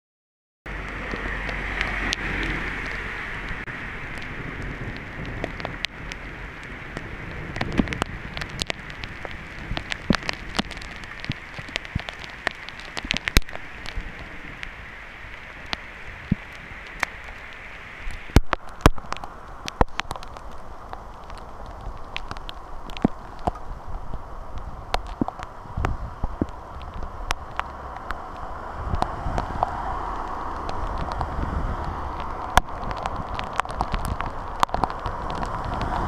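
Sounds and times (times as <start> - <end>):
heavy rain on asphalt: 0.7 - 36.0
hailstones ticking on hard surfaces: 4.0 - 36.0.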